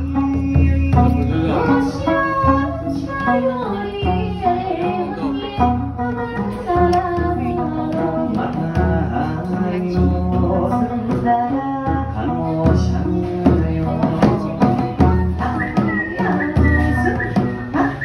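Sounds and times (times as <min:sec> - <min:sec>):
drum strokes: 0:00.0 - 0:18.0
plucked lute: 0:00.0 - 0:18.0
woman singing into a microphone: 0:00.0 - 0:18.0.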